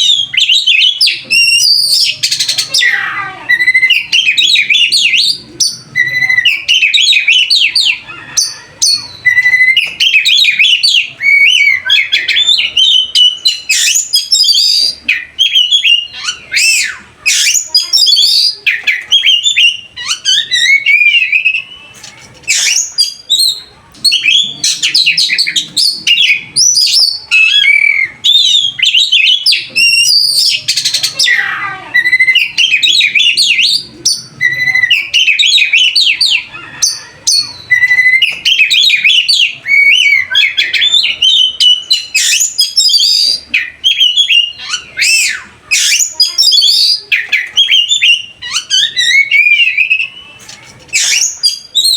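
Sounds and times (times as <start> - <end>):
pet bird chirping: 0.0 - 51.9.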